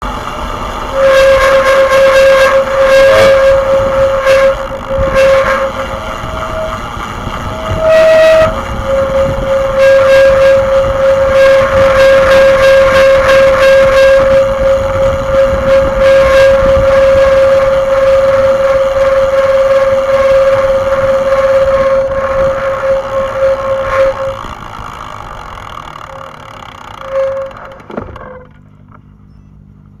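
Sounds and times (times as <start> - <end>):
disc brake squealing: 0.0 - 29.9.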